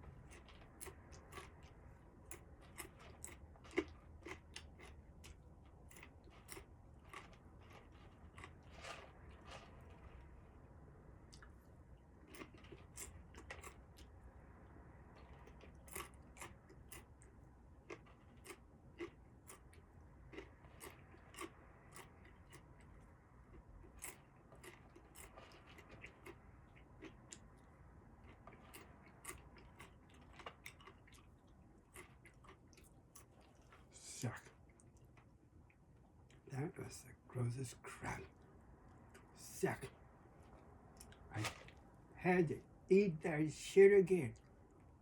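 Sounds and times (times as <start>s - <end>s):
chewing crunchy snack: 0.0s - 36.5s, 37.8s - 42.0s.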